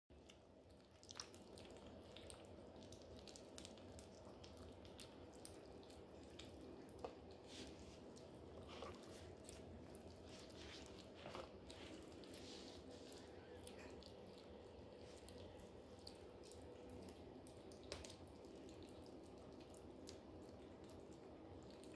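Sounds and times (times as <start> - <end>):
kittens chewing wet food: 0.1 - 21.9.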